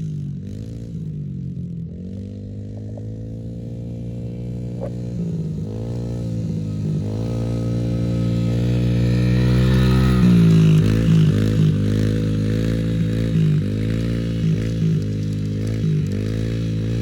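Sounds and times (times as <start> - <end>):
dirt bike engine passing: 1.8 - 17.0.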